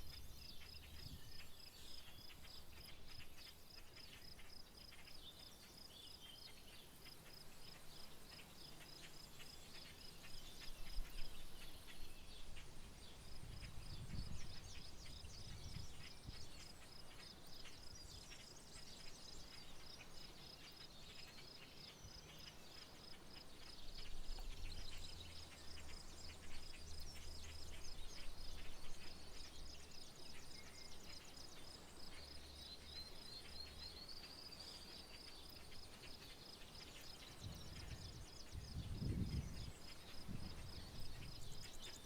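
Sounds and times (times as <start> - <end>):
bird chirps: 0.0 - 42.0.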